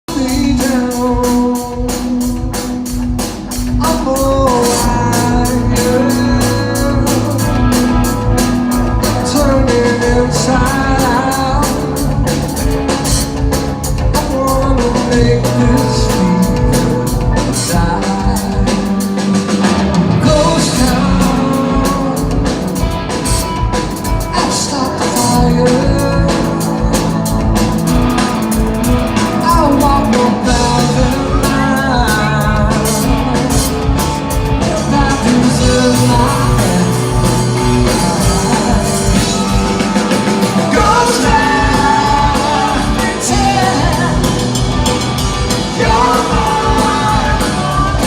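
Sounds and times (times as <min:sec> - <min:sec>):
bass line: 0:00.1 - 0:48.0
drum kit beat with cymbals: 0:00.1 - 0:48.0
electric guitar melody: 0:00.1 - 0:48.0.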